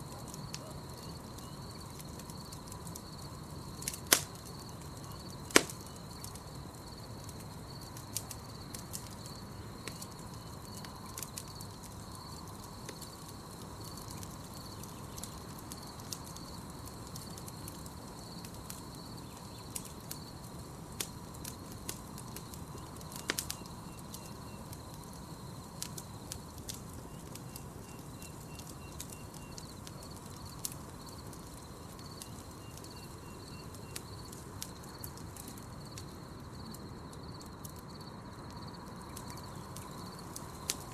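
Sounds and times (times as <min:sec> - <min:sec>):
campfire crackling: 0:00.0 - 0:40.9
night insects chirping: 0:00.0 - 0:40.9
sharp pops of fire: 0:00.0 - 0:40.9.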